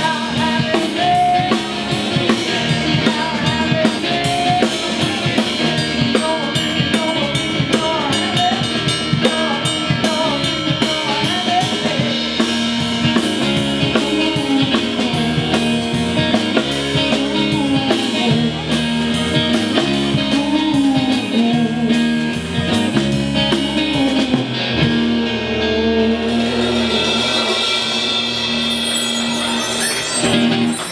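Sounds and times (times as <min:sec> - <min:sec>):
drum kit: 0:00.0 - 0:30.9
guitar: 0:00.0 - 0:30.9.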